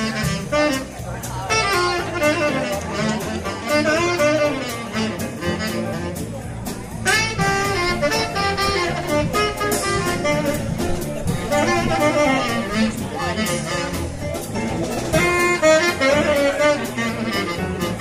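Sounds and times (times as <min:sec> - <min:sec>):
bass: 0:00.0 - 0:18.0
piano: 0:00.0 - 0:18.0
ride cymbal beat: 0:00.0 - 0:18.0
saxophone: 0:00.0 - 0:18.0.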